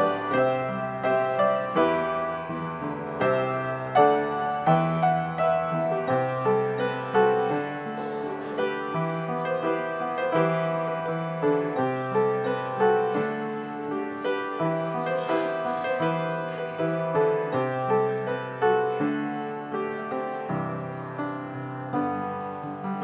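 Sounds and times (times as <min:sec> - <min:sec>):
solo piano chords: 0:00.0 - 0:23.0.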